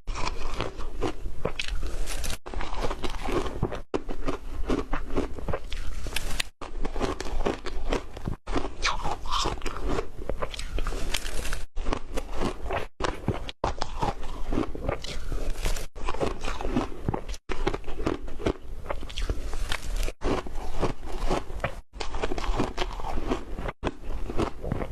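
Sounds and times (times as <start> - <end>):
ice crunching while chewing: 0.0 - 24.9.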